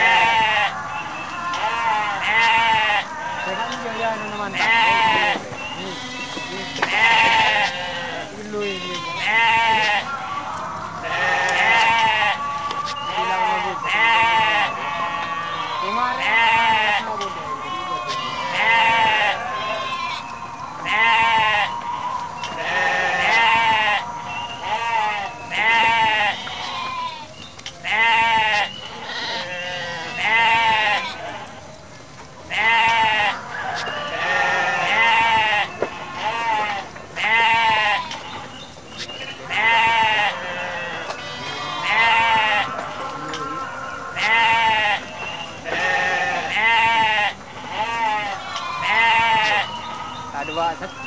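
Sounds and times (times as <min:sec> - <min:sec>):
sheep bleating: 0:00.0 - 0:31.6, 0:32.5 - 0:38.5, 0:39.4 - 0:50.0.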